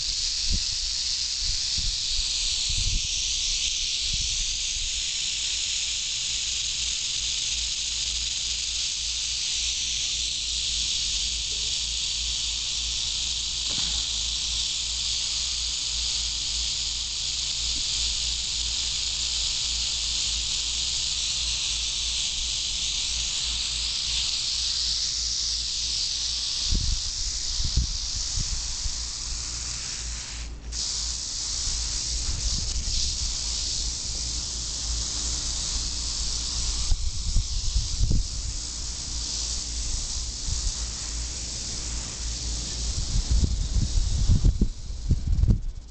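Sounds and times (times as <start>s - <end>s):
rattlesnake rattling: 0.0s - 45.9s.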